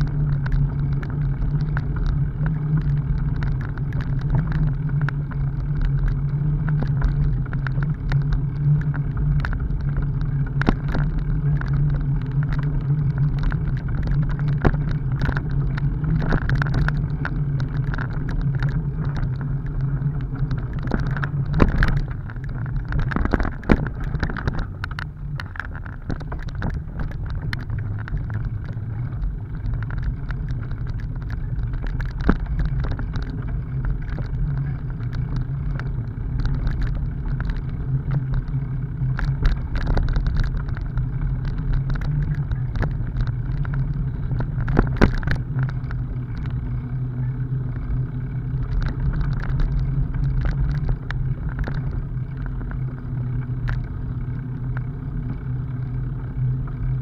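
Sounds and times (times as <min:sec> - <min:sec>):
bicycle tyres rumbling on gravel: 0:00.0 - 0:57.0
bike clicks and rattles: 0:00.0 - 0:57.0.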